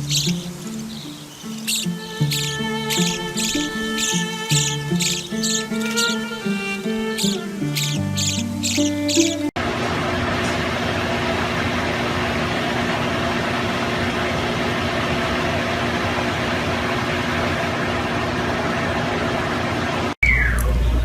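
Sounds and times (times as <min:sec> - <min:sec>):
motor or fan running: 0:00.0 - 0:21.0.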